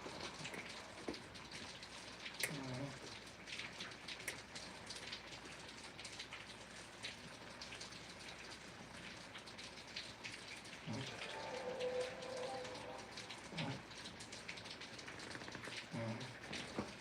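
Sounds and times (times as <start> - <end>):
rain falling: 0.0 - 17.0
raindrops tapping: 0.0 - 17.0.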